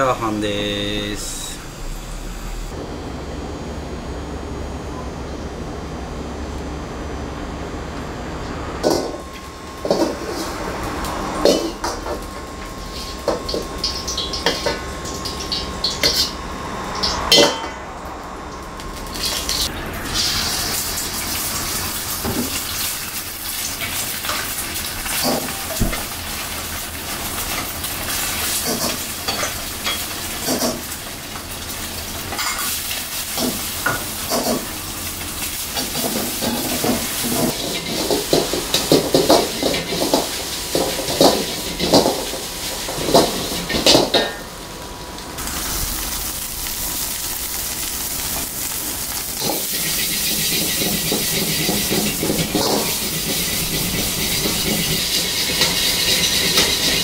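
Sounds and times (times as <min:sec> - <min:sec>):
oil sizzling: 0:08.8 - 0:17.6, 0:18.2 - 0:57.0.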